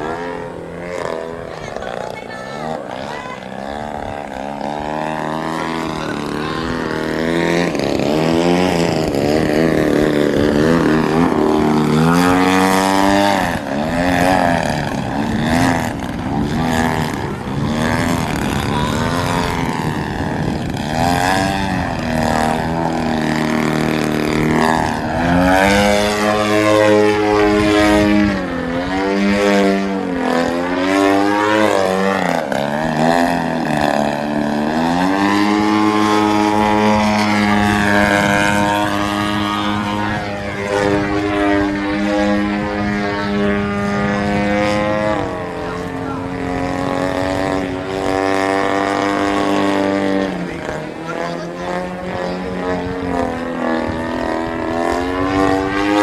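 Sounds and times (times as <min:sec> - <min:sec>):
model plane engine droning: 0:00.0 - 0:56.0.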